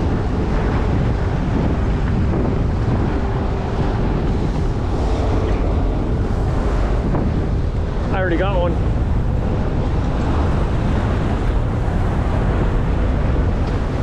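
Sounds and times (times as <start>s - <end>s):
faint boat engine hum: 0.0s - 14.0s
water rushing past boat: 0.0s - 14.0s
wind buffeting microphone: 0.0s - 14.0s.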